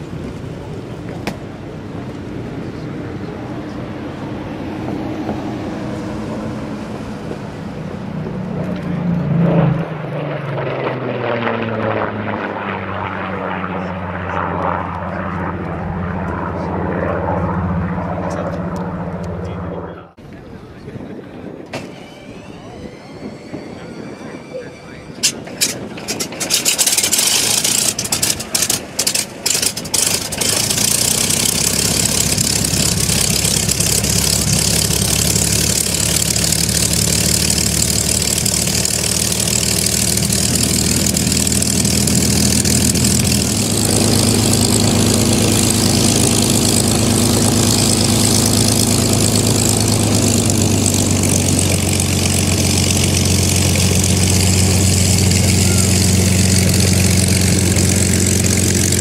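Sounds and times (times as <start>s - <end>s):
propeller aircraft engine starting: 0.0s - 59.0s.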